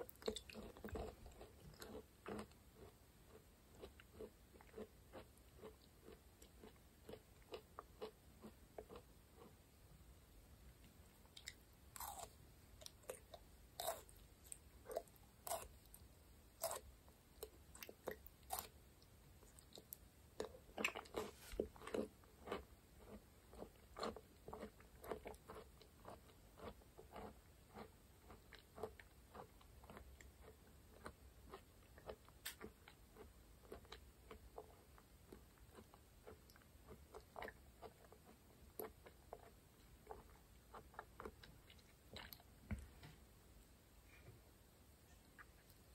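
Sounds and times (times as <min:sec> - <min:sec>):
mouth chewing gel: 0:00.0 - 0:09.8, 0:10.8 - 0:42.6.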